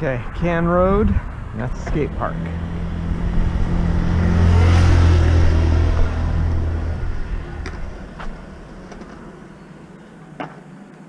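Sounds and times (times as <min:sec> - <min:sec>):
vehicle passing on road: 0:00.0 - 0:10.7.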